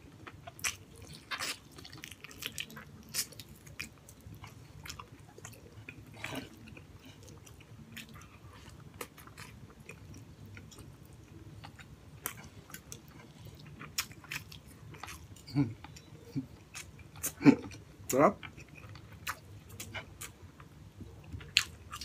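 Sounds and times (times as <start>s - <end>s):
person chewing: 0.1s - 22.0s.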